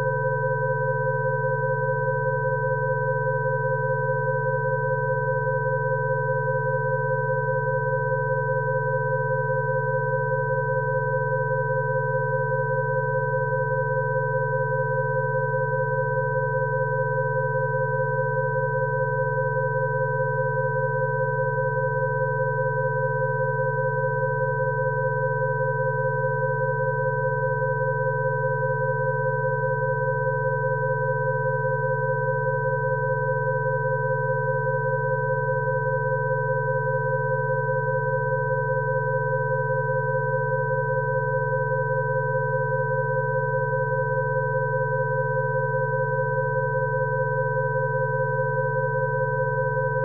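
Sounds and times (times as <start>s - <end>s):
wavering middle sine tones: 0.0s - 50.0s.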